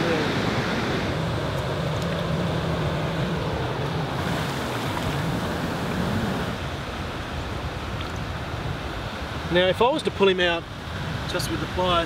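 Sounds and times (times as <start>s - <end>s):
wind on microphone: 0.0s - 9.7s.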